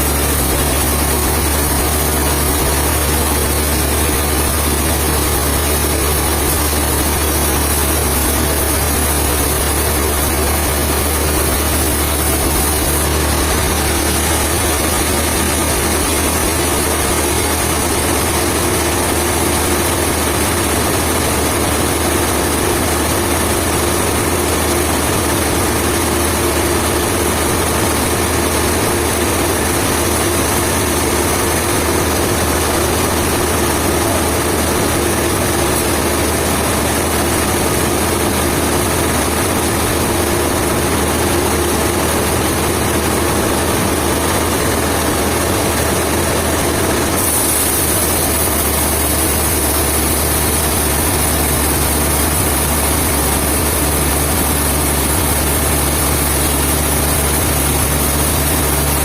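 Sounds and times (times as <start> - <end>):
mid-pitched machine tone: 0.0 - 59.0
sawmill engine drone: 0.0 - 59.0.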